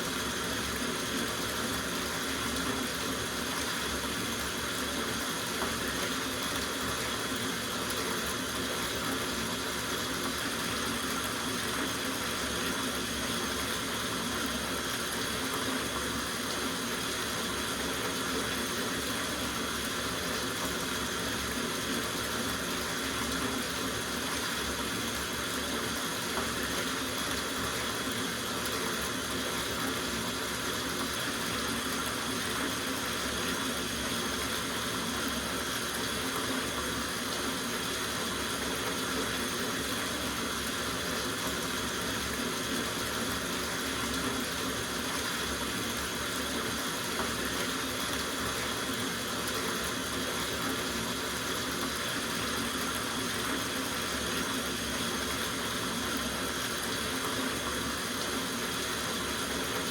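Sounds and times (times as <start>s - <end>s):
tap water running into bathtub: 0.0s - 59.9s.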